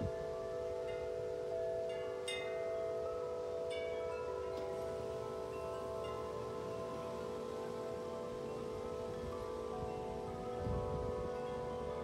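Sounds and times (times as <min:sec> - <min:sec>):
tubular wind chimes ringing: 0:00.0 - 0:12.0.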